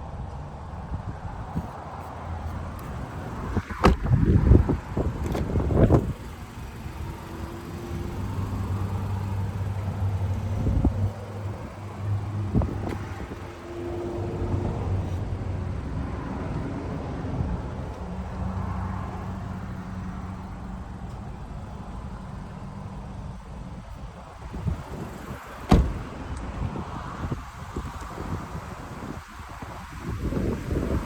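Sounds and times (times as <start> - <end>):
car engine humming: 0.4 - 31.0.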